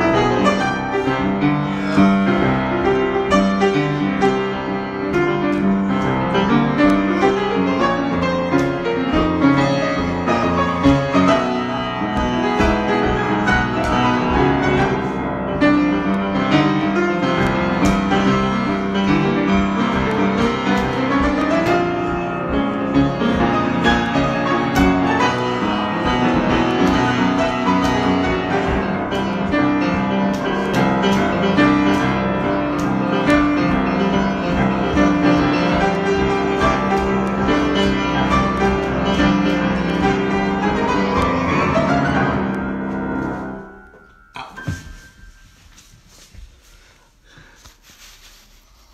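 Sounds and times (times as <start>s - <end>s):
solo piano improvisation: 0.0s - 45.7s.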